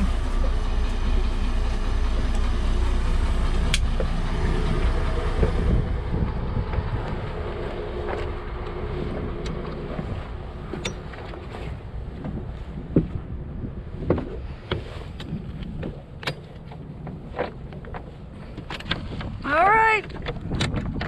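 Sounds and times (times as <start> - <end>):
boat engine rumbling: 0.0 - 21.0
wind on microphone: 3.0 - 21.0.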